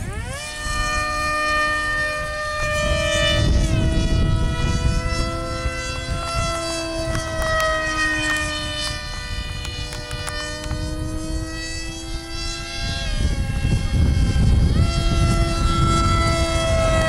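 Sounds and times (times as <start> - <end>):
rc plane motors whining: 0.0 - 17.0
wind on microphone: 0.0 - 17.0.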